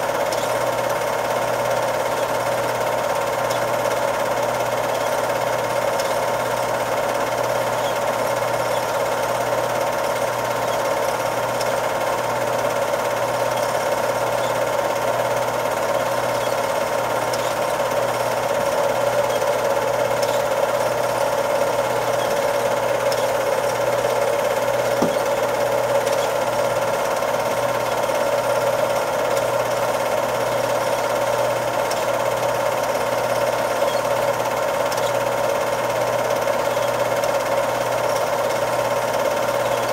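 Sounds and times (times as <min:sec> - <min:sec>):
film projector clatter: 0:00.0 - 0:39.9.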